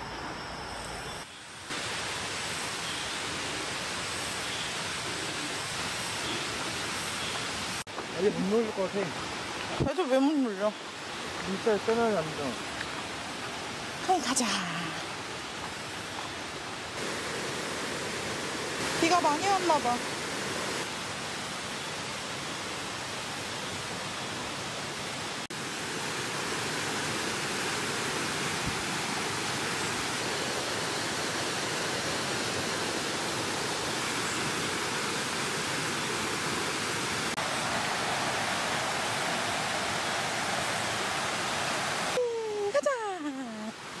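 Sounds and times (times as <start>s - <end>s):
stream rushing over boulders: 1.0s - 44.0s.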